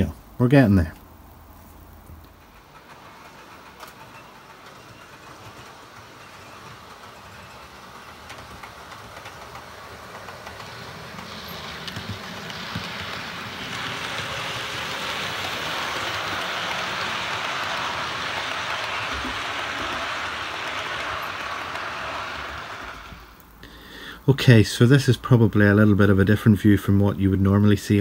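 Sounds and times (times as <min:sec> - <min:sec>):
model train whirring: 0:01.2 - 0:28.0.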